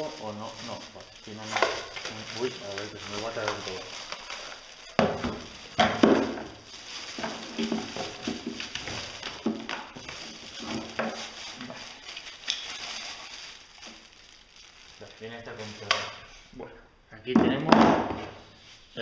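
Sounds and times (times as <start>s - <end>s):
plastic bag crinkling: 0.0s - 16.3s.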